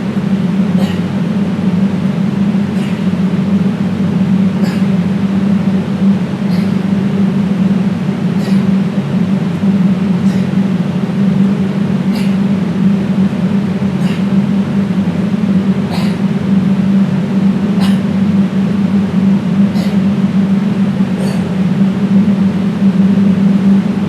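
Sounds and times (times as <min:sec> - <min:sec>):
constant noise: 0:00.0 - 0:24.0
loud low hum: 0:00.0 - 0:24.0.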